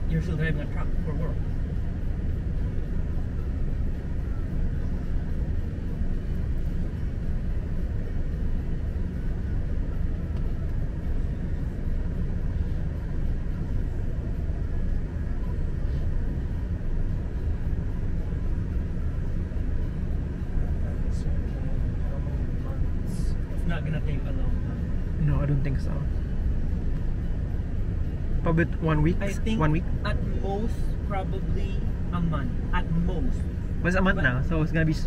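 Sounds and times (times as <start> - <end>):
car cabin rumble: 0.0 - 35.0.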